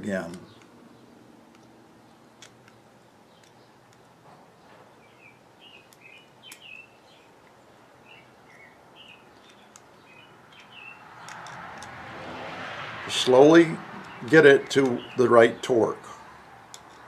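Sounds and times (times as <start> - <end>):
faint bird chirping: 0.3 - 11.4, 13.9 - 16.6.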